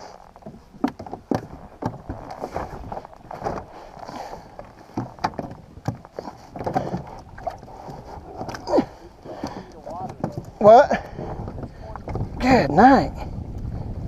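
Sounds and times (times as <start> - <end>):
knocks and taps on kayak: 0.4 - 3.7, 4.5 - 12.7.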